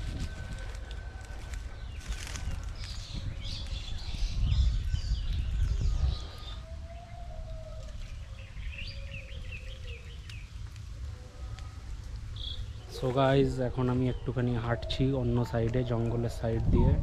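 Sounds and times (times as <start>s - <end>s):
birds chirping: 0.0s - 17.0s
microphone wind rumble: 0.0s - 17.0s.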